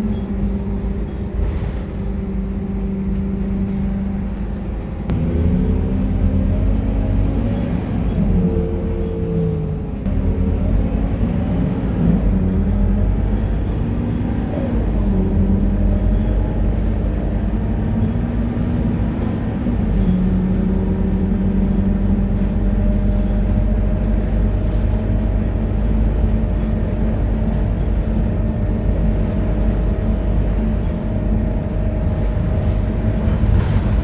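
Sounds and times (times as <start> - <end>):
bus diesel engine rumbling: 0.0 - 34.0.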